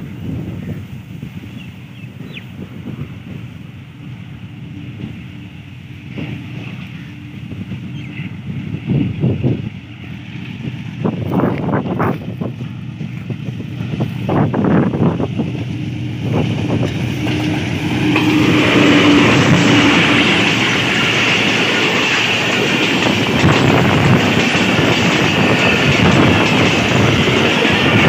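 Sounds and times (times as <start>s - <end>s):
train wheels rumbling on rails: 0.0s - 28.0s
wind buffeting microphone: 0.0s - 28.0s.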